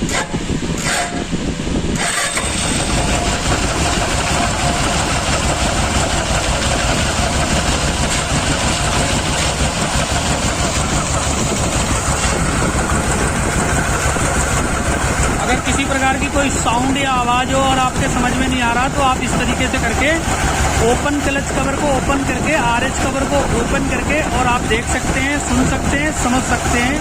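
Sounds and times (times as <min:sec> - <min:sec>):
grinding hum of timing chain: 0:00.0 - 0:27.0
motorcycle engine running: 0:00.0 - 0:27.0.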